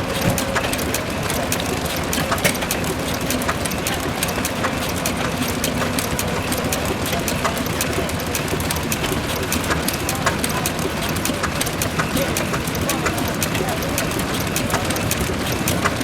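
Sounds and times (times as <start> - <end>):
stationary petrol engine running: 0.0 - 16.0.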